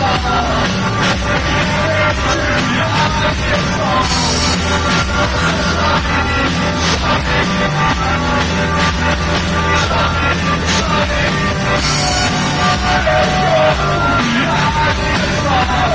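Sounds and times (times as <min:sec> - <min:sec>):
person singing: 0:00.0 - 0:15.9
rock band playing: 0:00.0 - 0:15.9.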